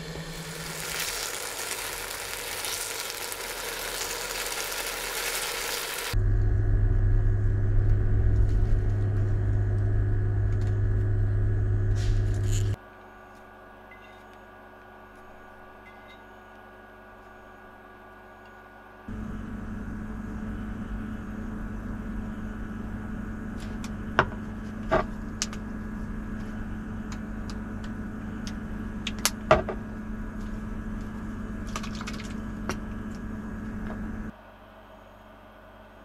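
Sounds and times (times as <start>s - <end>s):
machine hum: 0.0s - 36.0s.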